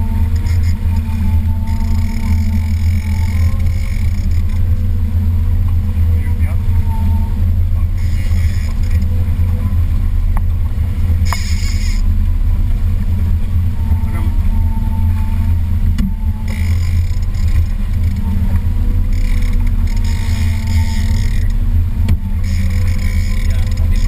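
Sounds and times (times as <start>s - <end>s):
boat motor droning: 0.0s - 24.0s.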